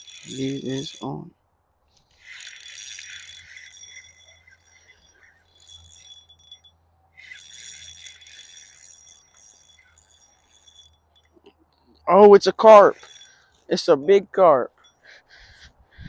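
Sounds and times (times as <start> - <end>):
fishing reel whirring: 0.0 - 1.2, 1.9 - 16.0.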